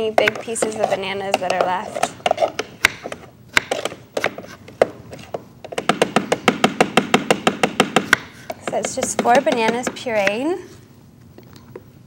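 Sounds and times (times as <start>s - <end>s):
knife chopping on wooden board: 0.2s - 10.4s.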